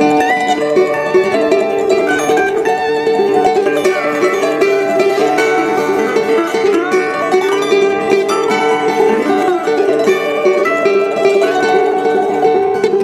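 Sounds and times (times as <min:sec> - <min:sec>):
plucked string instrument melody: 0:00.0 - 0:13.0.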